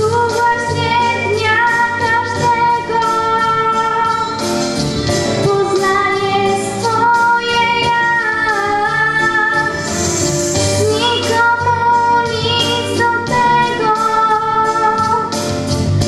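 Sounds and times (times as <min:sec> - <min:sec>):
girl singing into microphone: 0:00.0 - 0:04.4, 0:05.4 - 0:09.9, 0:10.7 - 0:15.5
instrumental accompaniment: 0:00.0 - 0:16.0.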